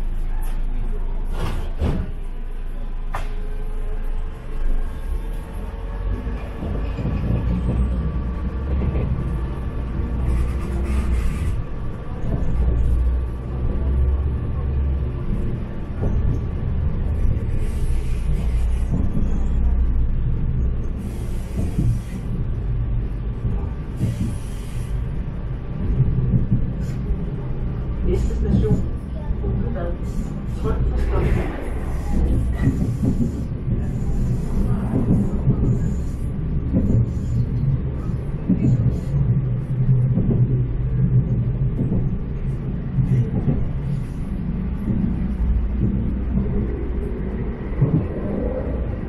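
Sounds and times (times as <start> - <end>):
railcar engine and wheels rumbling: 0.0 - 49.0.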